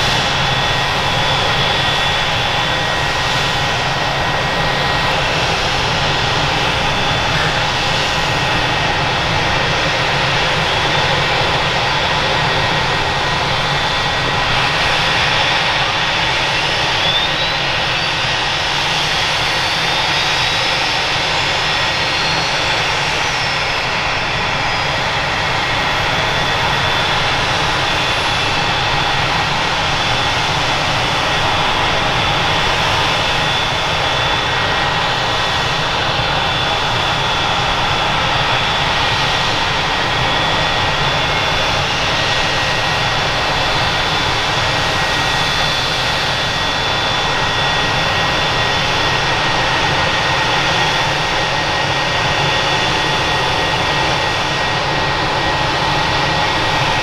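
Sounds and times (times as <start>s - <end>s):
helicopter rotor noise: 0.0s - 57.0s
helicopter turbine whine: 0.0s - 57.0s.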